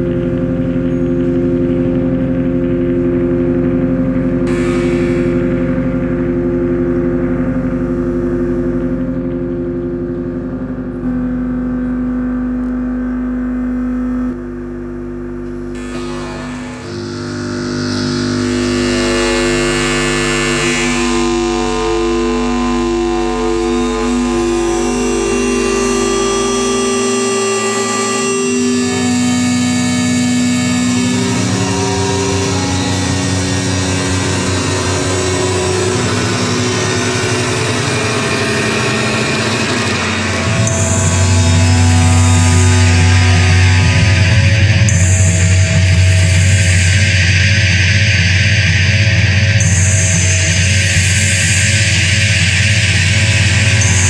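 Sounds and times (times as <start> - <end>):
loud electronic drone: 0.0 - 54.0.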